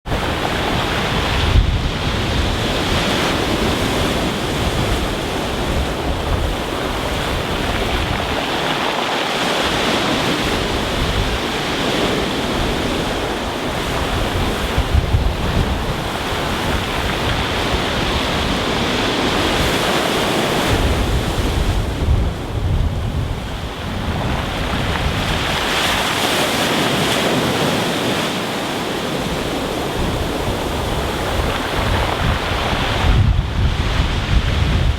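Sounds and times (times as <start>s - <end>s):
wind buffeting microphone: 0.0s - 34.9s
surf washing over stones: 0.1s - 34.9s.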